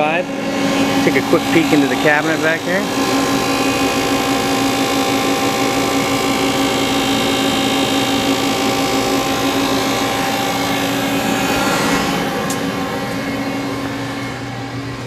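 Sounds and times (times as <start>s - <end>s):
machine hum and whine: 0.0s - 15.0s.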